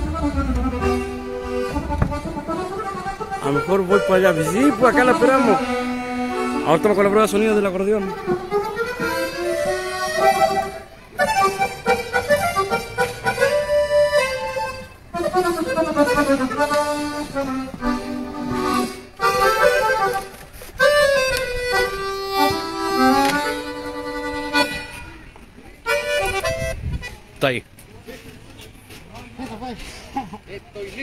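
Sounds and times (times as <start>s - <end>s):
accordion melodic runs and chords: 0.0s - 27.4s.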